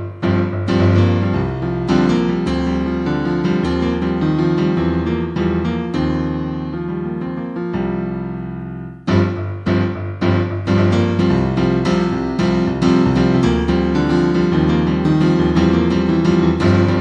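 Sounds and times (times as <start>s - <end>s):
piano chords and melody: 0.0s - 17.0s.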